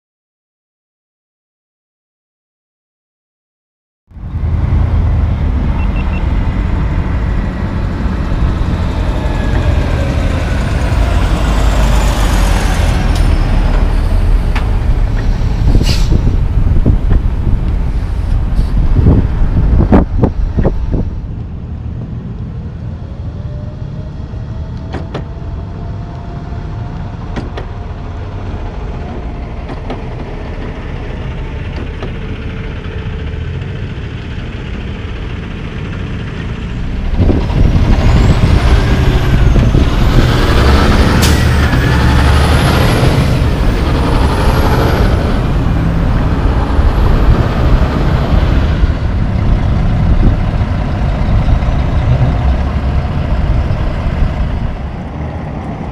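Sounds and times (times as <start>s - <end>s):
low truck engine rumble: 4.1s - 55.9s
truck engine close by: 4.1s - 55.9s.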